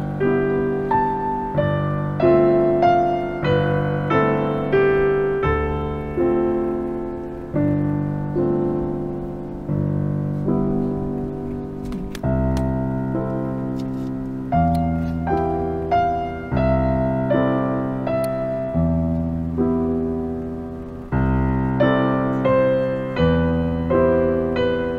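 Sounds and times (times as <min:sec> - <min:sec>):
slow piano music: 0:00.0 - 0:24.9.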